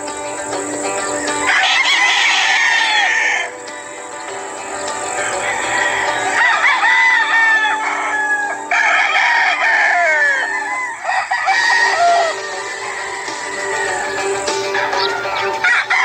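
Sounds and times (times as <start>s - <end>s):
roosters crowing: 0.0s - 16.0s.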